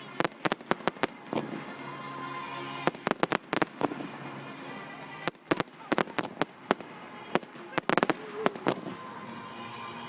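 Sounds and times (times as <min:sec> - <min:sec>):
fireworks bangs and cracks: 0:00.0 - 0:09.4.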